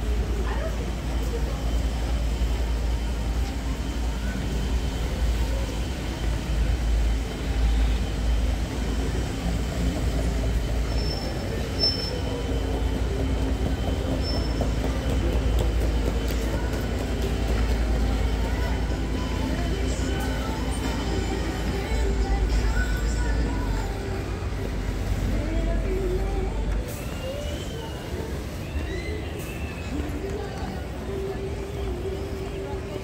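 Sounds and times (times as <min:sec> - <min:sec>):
city traffic rumble: 0:00.0 - 0:33.0.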